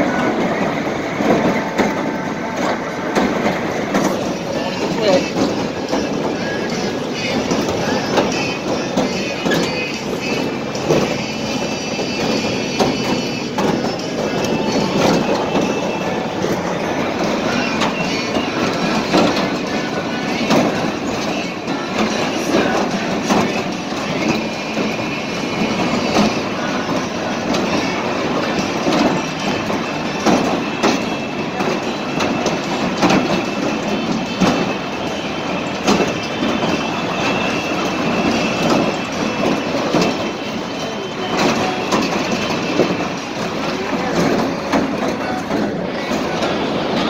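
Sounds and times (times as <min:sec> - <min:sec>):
amusement ride mechanical rumble: 0:00.0 - 0:47.0
clattering knocks: 0:00.0 - 0:47.0.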